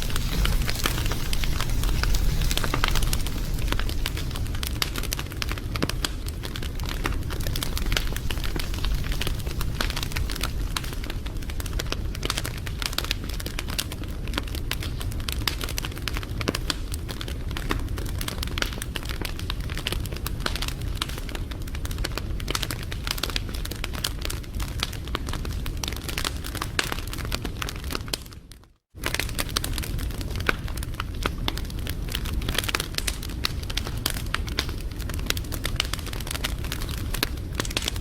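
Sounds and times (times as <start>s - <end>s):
low rumble of fire: 0.0s - 38.0s
wood fire crackling: 0.0s - 38.0s.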